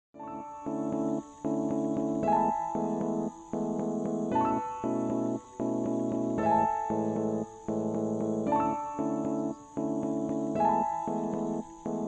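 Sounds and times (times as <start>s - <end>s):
background music with chords: 0.2s - 12.0s.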